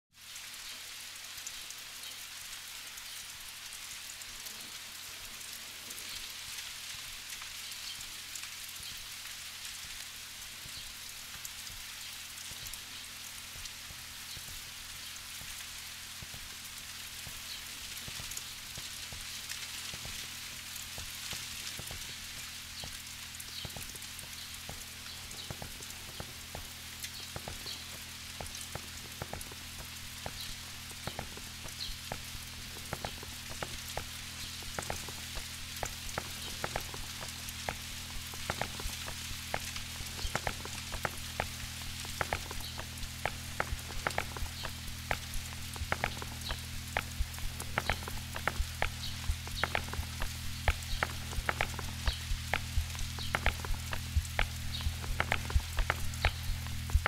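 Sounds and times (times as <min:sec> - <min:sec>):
rain drips and patters: 0:00.1 - 0:57.0
low steady drone: 0:09.8 - 0:57.0.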